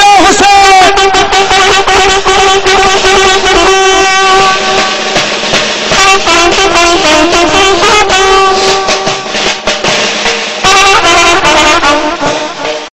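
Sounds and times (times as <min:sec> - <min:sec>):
brass horns long notes: 0:00.0 - 0:12.9
drum beats: 0:00.0 - 0:12.9.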